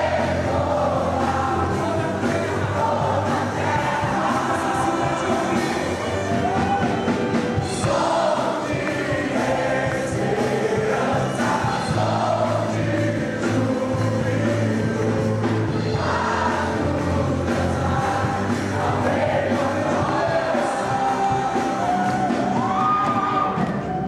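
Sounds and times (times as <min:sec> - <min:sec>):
group singing worship song: 0:00.0 - 0:22.8
held bass notes: 0:00.0 - 0:22.8.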